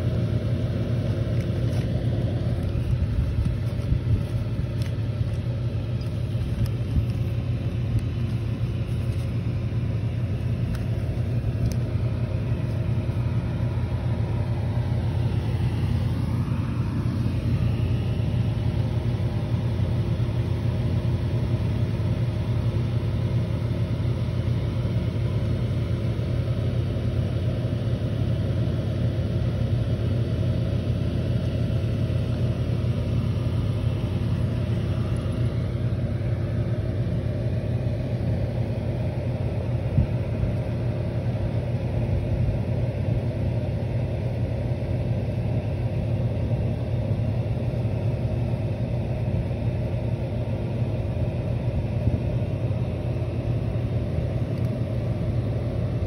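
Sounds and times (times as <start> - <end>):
air cooler fan humming: 0.0 - 56.0.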